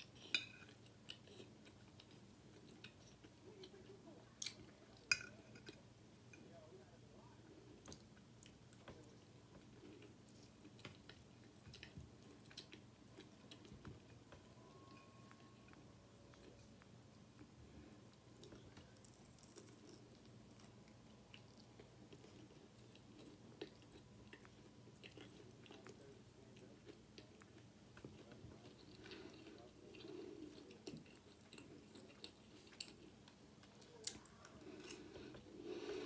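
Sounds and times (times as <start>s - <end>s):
faint chewing: 0.0s - 6.6s, 7.4s - 36.0s.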